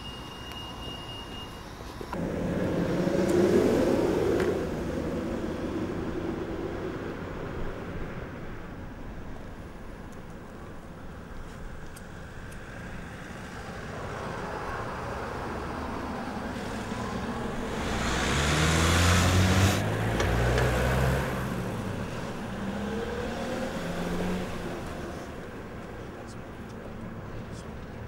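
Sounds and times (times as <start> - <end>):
bus and cars driving past: 0.0 - 28.0.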